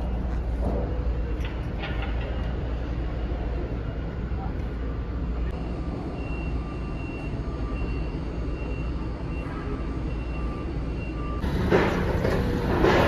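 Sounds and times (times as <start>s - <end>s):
forklift working: 0.0s - 13.0s
machinery rumbling: 0.0s - 13.0s.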